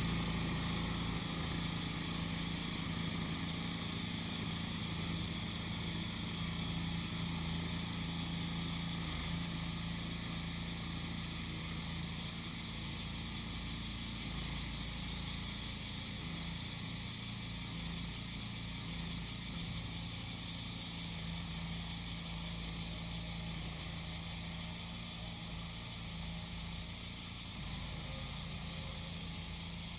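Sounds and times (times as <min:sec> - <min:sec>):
cicadas shrilling: 0:00.0 - 0:29.9
grass cutter engine running: 0:00.0 - 0:29.9.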